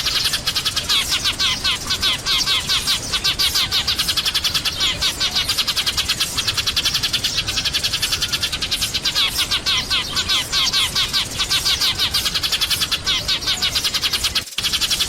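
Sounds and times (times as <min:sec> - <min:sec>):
sparrows chirping: 0:00.0 - 0:15.0.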